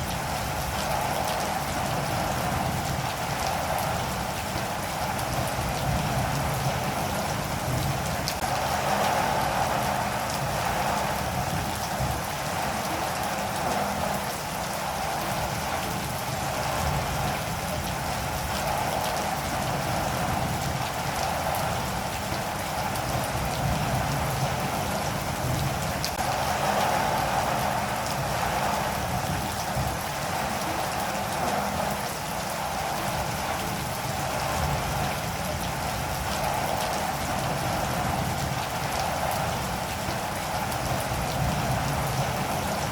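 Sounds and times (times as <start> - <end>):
rain pattering on a surface: 0.0 - 42.9.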